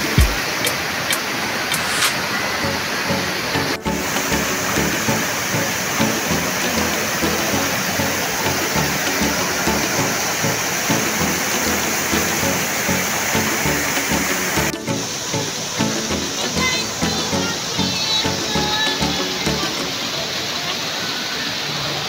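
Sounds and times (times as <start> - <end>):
waterfall rushing: 0.0 - 22.0
faint background music: 2.3 - 21.0.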